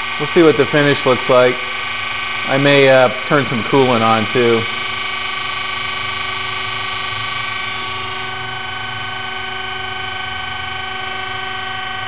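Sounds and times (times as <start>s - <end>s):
surface grinder whine: 0.0s - 12.0s.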